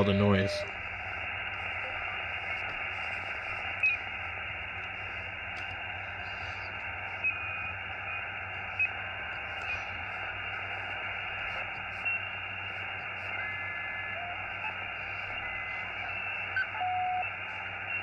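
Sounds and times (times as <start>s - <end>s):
radio static hiss: 0.0s - 18.0s
radio whistles: 0.0s - 18.0s.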